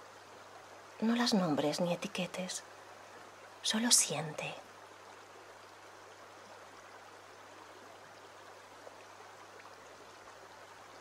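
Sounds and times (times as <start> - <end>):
stream flowing over pebbles: 0.0 - 11.0.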